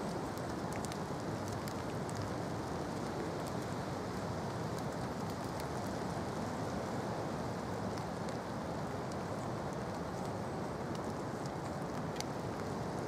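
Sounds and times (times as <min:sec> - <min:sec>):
raindrop ticks: 0:00.0 - 0:06.8, 0:07.6 - 0:13.0
rain and wind hiss: 0:00.0 - 0:13.0.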